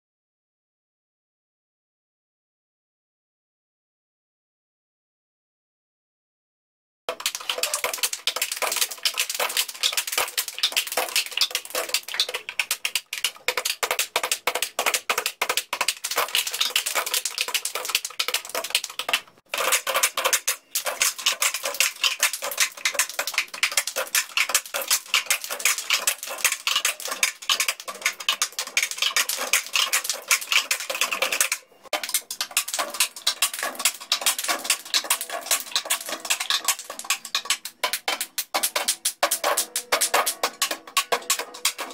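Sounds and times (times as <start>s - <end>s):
hand claps: 7.1s - 19.3s, 20.0s - 41.9s
plastic cups clacking on desks: 7.1s - 41.9s.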